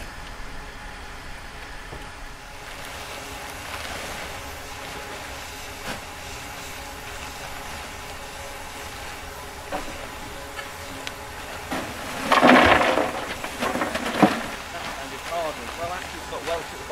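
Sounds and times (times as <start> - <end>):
steam hissing: 0.0 - 16.9.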